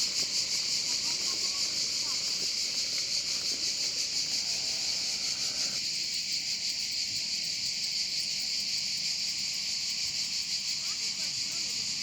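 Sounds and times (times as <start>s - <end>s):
insects chorus buzzing: 0.0s - 12.0s.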